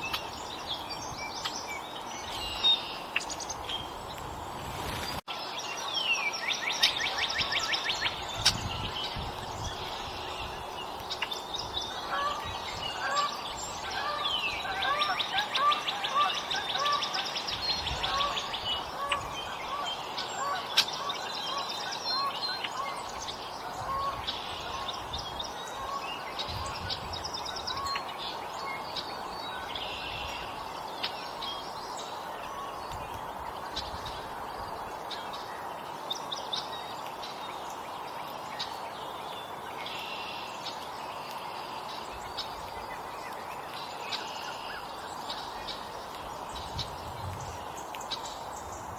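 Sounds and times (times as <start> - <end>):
faint outdoor hiss: 0.0 - 48.9.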